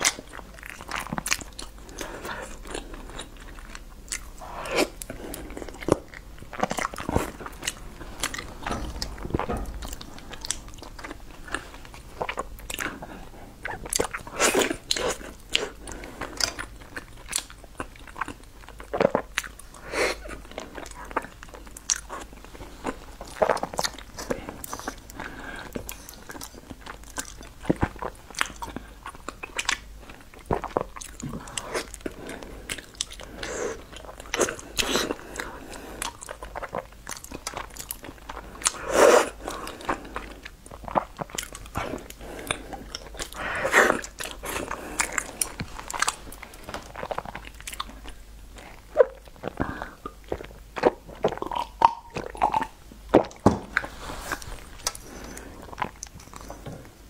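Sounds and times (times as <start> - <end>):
wet chewing and mouth smacks: 0.0 - 57.0.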